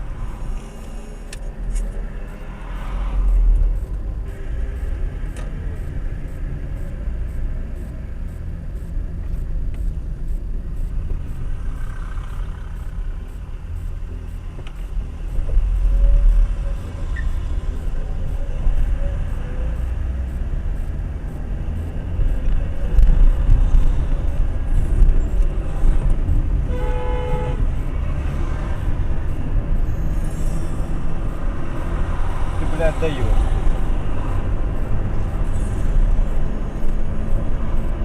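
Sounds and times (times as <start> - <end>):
car engine rumble: 0.0 - 38.0
road noise: 0.0 - 38.0.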